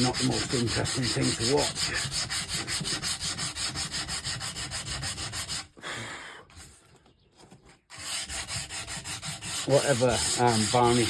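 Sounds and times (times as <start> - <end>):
sandpaper rubbing on wood: 0.0 - 5.8, 7.9 - 11.0.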